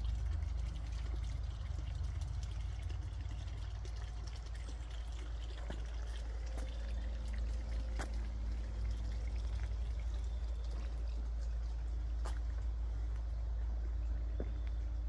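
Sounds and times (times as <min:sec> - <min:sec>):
low rumble: 0:00.0 - 0:15.0
small water drips: 0:00.0 - 0:15.0
water trickling and pouring: 0:00.0 - 0:15.0.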